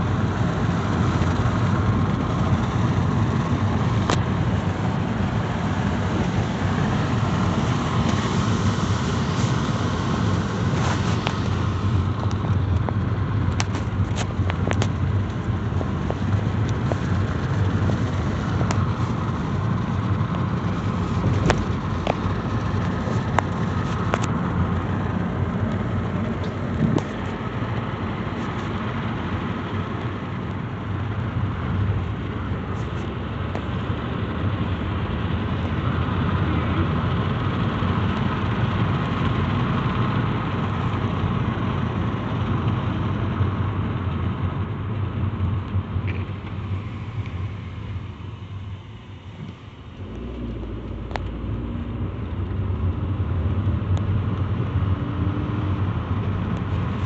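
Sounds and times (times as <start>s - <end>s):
low vehicle rumble: 0.0s - 57.0s.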